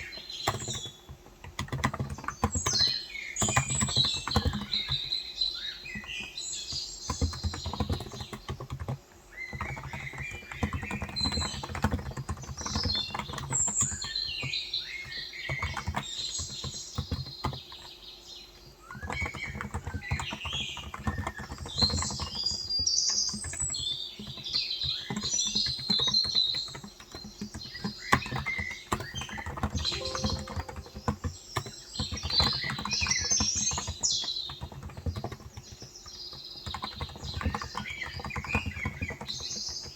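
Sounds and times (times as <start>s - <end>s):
small birds chirping: 0.0s - 39.9s
typing on a keyboard: 0.0s - 39.9s.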